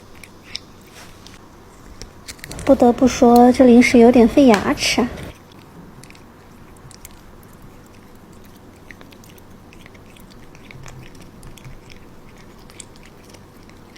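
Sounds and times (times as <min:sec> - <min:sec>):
cat chewing hard treat: 0:00.0 - 0:04.4, 0:05.1 - 0:13.9.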